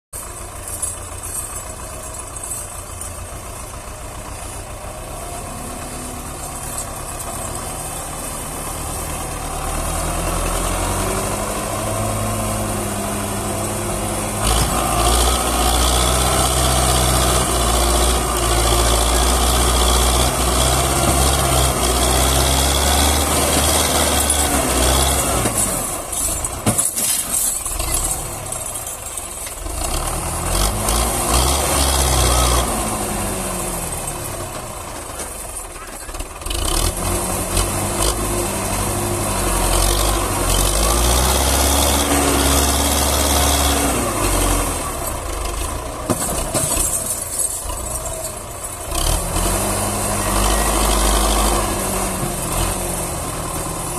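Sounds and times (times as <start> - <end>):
tractor diesel engine under load: 0.1 - 53.9.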